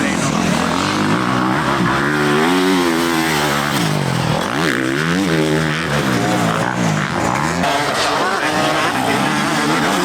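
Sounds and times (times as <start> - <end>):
motocross bike engine revving: 0.0 - 10.0.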